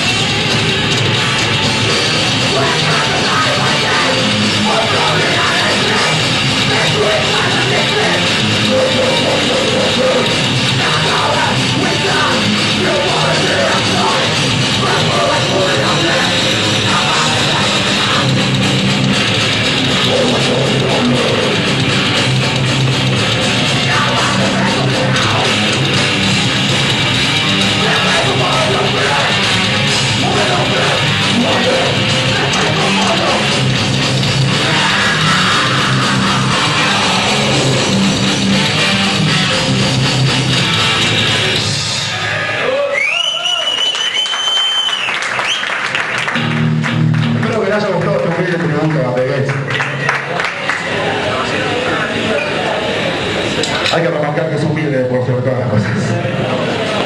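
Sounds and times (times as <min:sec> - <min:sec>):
heavy rock band playing: 0:00.0 - 0:42.8, 0:45.3 - 0:50.0
electric guitar: 0:00.0 - 0:43.0, 0:43.7 - 0:54.1.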